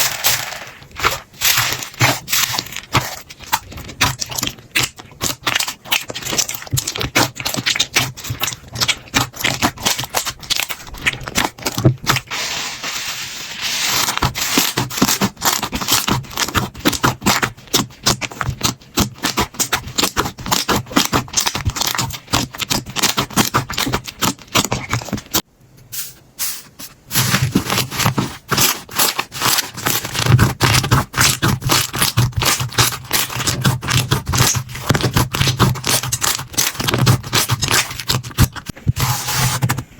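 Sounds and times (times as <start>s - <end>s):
hands squishing slime: 0.0s - 25.4s, 26.6s - 39.0s.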